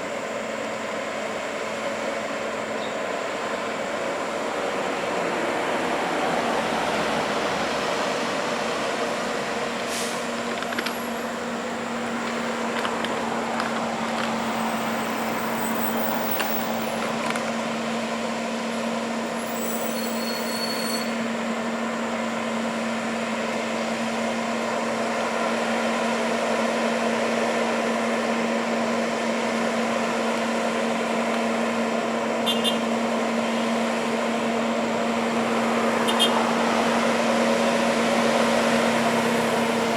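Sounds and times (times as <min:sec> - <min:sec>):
heavy truck running: 0:00.0 - 0:39.9
road and traffic noise: 0:00.0 - 0:39.9.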